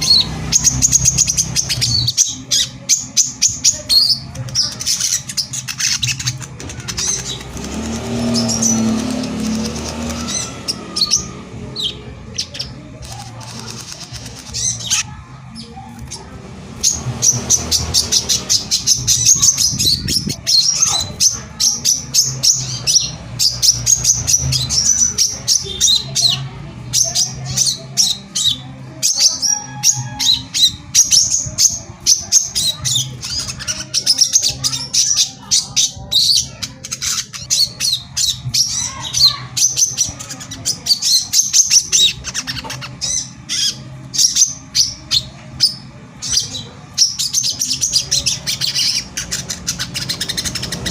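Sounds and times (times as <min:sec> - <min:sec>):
bird singing high chirps: 0:00.0 - 0:50.9.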